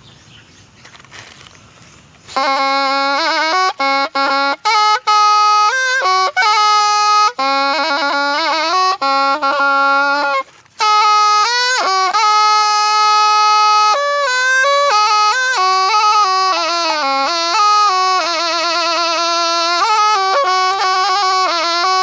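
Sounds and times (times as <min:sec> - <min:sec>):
reed oboe melody: 0:01.2 - 0:22.0.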